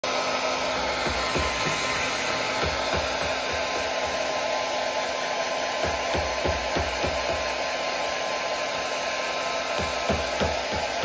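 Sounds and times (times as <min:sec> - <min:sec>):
blow dryer blowing: 0:00.0 - 0:11.0.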